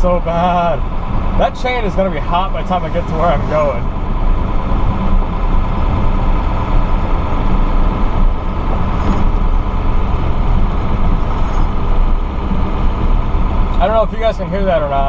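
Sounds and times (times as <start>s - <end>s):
pickup truck engine: 0.0s - 15.0s
road rumble: 0.0s - 15.0s.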